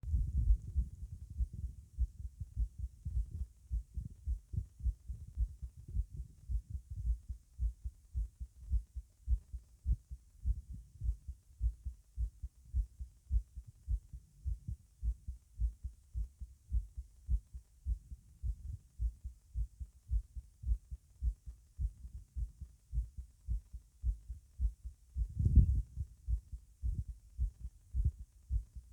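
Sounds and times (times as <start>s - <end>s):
heart beating: 0.0s - 28.9s.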